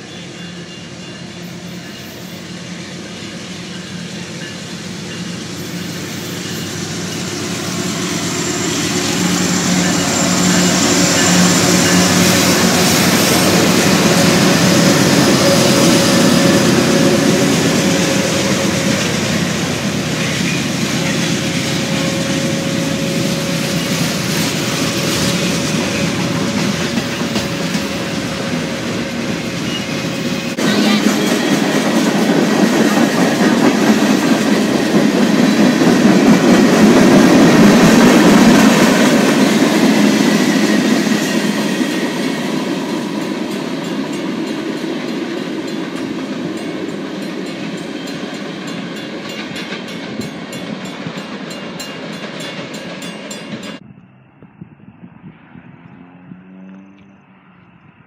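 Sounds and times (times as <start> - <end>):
freight train rumbling and clattering: 0.0 - 56.5.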